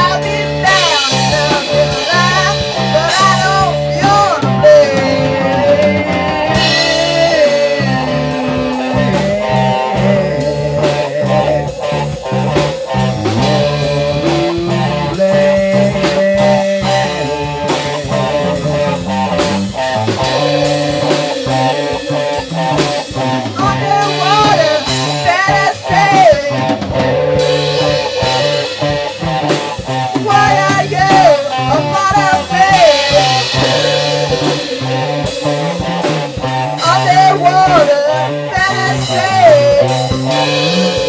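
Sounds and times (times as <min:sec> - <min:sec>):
rock band jamming: 0:00.0 - 0:41.0
sliding high guitar line: 0:04.9 - 0:15.2, 0:16.4 - 0:41.0.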